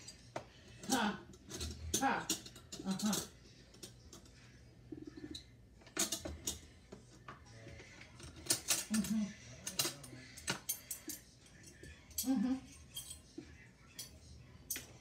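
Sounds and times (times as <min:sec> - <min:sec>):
dishes and cutlery clinking: 0:00.0 - 0:15.0.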